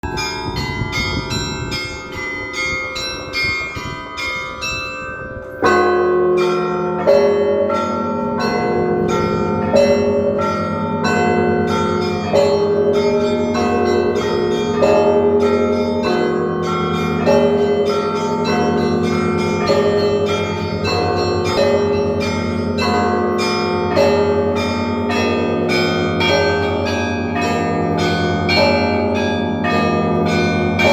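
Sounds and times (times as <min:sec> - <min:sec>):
deep church bells: 0:00.0 - 0:30.9
small high bells ringing: 0:00.0 - 0:30.9.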